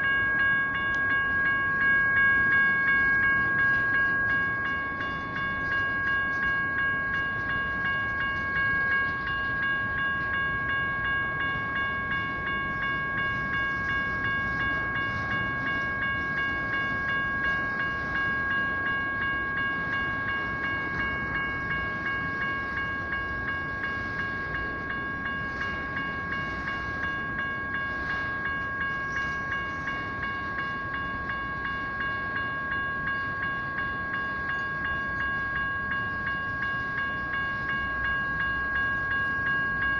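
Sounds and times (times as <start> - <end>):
electronic crossing bell ringing: 0.0 - 39.9
train rumbling: 0.0 - 39.9.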